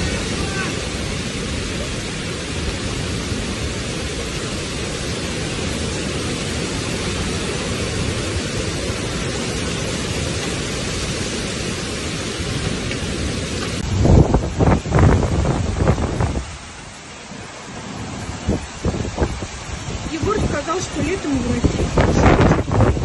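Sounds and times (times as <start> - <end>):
heavy rain: 0.0 - 23.0
strong wind: 0.0 - 23.0.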